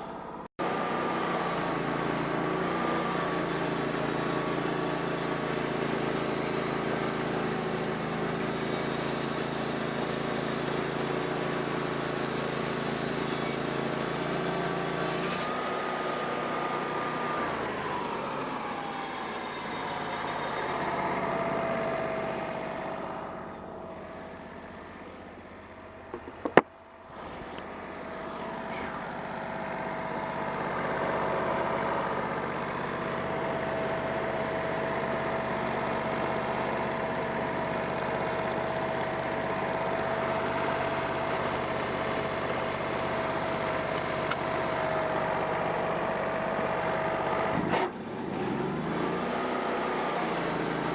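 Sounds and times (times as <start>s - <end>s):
bandsaw mill engine running: 0.0s - 50.9s.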